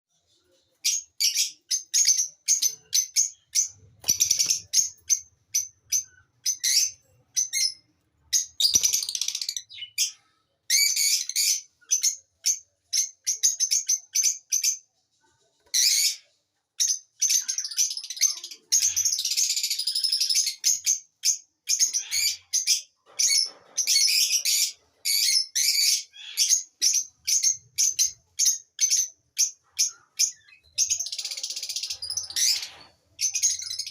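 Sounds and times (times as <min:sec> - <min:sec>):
lovebirds chirping and chattering: 0:00.1 - 0:33.9.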